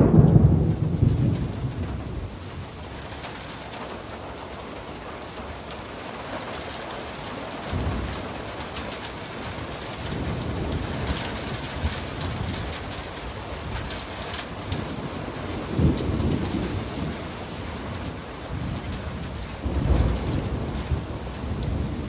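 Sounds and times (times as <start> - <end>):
heavy rain falling: 0.0 - 22.0
thunder rumbling: 0.0 - 22.0.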